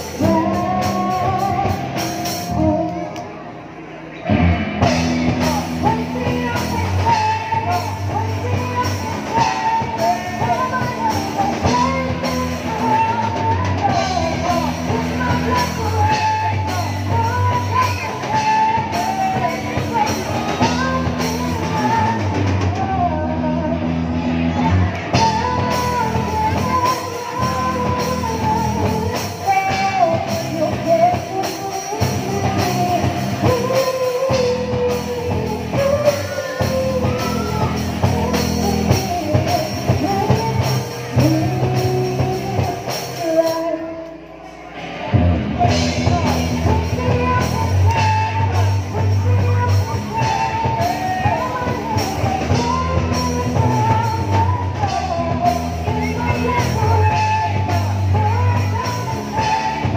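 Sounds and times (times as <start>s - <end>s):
drums: 0.0s - 59.9s
electric guitars: 0.0s - 59.9s
person singing: 0.0s - 59.9s.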